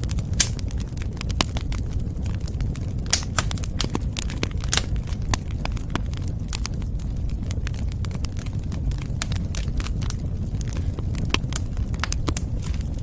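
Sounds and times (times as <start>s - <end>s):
low rumble of burning fire: 0.0s - 13.0s
wood fire pops and snaps: 0.0s - 13.0s.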